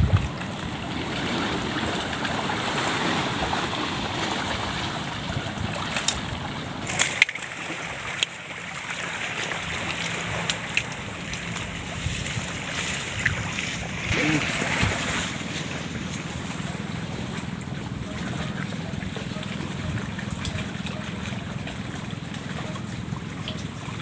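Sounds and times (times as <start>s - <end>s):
water washing at shoreline: 0.0s - 24.0s
wind: 0.0s - 24.0s.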